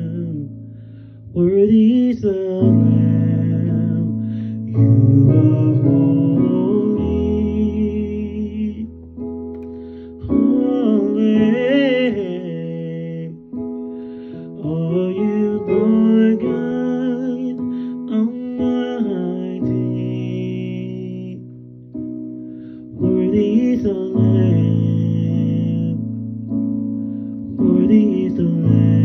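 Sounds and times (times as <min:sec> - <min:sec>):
man singing: 0:00.0 - 0:00.6, 0:01.3 - 0:09.2, 0:10.2 - 0:21.6, 0:23.0 - 0:26.2, 0:27.4 - 0:29.0.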